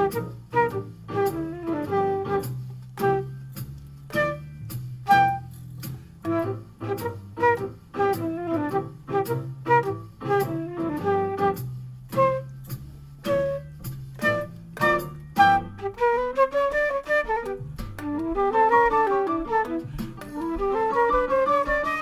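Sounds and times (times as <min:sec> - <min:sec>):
bass line: 0:00.0 - 0:22.0
drum accents: 0:00.0 - 0:22.0
flute improvising jazz: 0:00.0 - 0:22.0
piano accents: 0:00.0 - 0:22.0.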